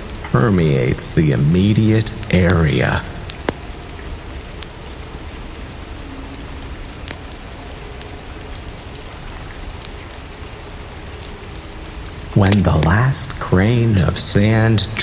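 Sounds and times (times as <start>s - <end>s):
sharp rain ticks: 0.0s - 15.0s
steady rainfall: 0.0s - 15.0s.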